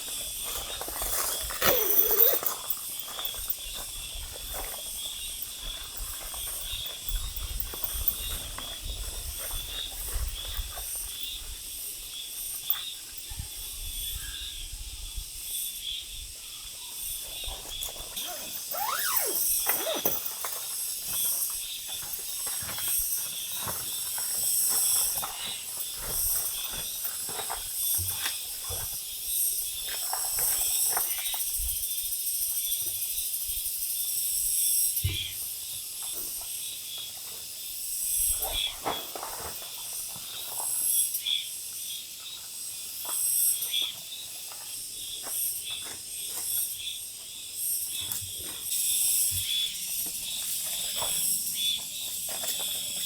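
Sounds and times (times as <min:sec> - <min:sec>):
insect chorus chirring: 0:00.0 - 0:53.0.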